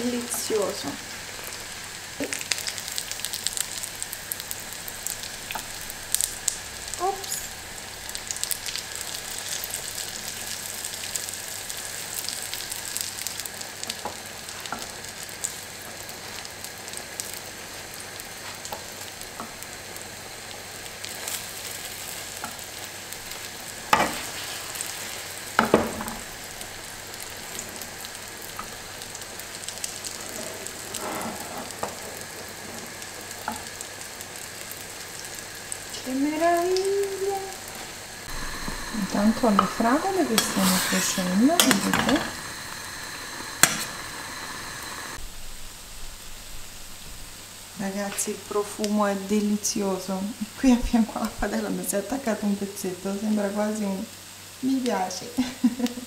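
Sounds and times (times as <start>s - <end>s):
fritters sizzling in butter: 0.0s - 56.0s.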